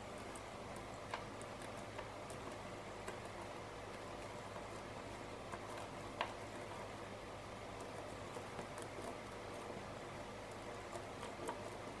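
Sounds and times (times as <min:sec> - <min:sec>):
room hiss and hum: 0:00.0 - 0:12.0.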